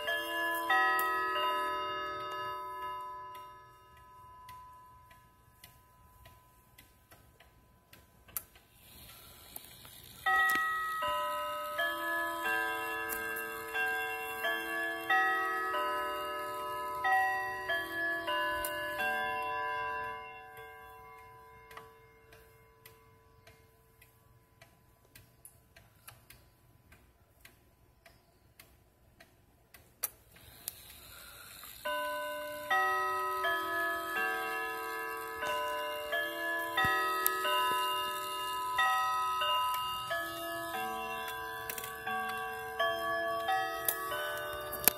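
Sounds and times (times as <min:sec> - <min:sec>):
clock chime ringing: 0:00.0 - 0:24.6, 0:31.0 - 0:44.9
wall clock ticking: 0:00.0 - 0:44.9.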